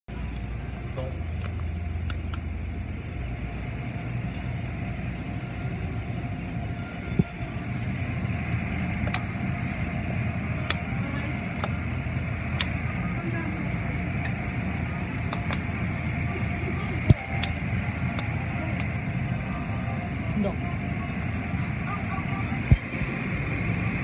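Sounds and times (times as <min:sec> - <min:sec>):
car wash machinery rumbling: 0:00.1 - 0:24.0.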